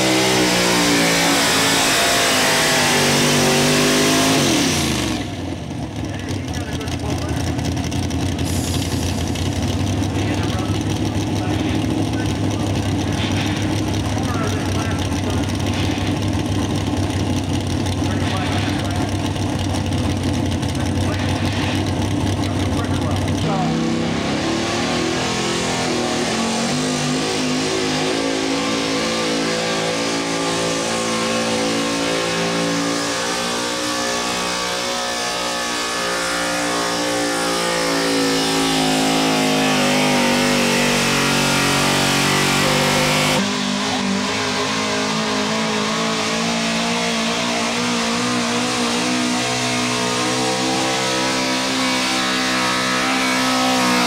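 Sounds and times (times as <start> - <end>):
truck engines revving under load: 0.0 - 54.0.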